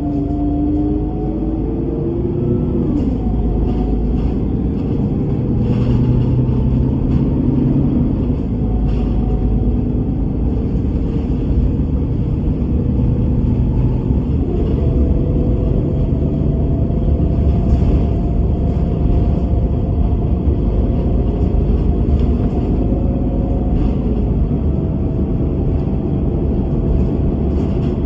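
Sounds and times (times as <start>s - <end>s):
bus engine drone with whine: 0.0s - 28.0s.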